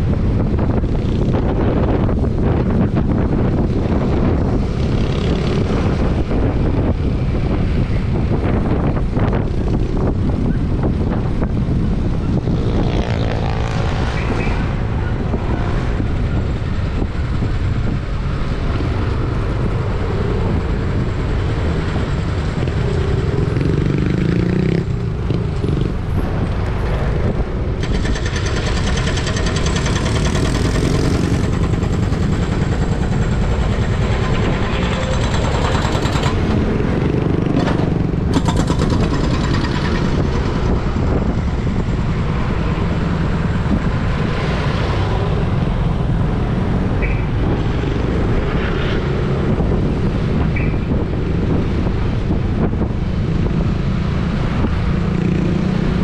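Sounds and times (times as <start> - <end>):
vehicle engine and traffic: 0.0 - 56.0
wind on microphone: 0.0 - 56.0.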